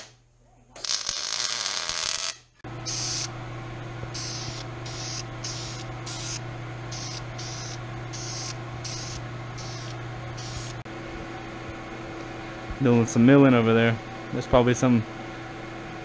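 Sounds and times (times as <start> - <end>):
low hum: 2.7 - 16.0.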